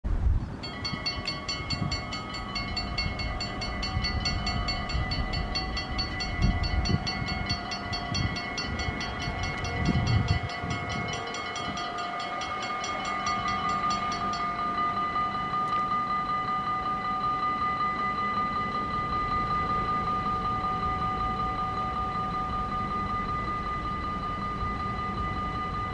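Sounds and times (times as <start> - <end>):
level crossing bells ringing: 0.6 - 25.9.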